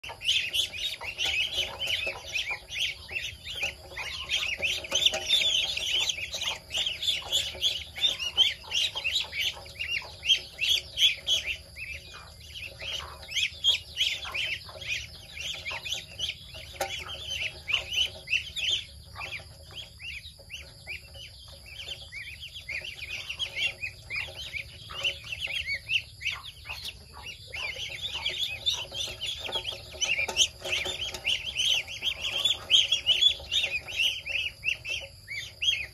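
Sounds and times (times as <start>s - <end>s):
ducklings peeping: 0.0s - 35.9s.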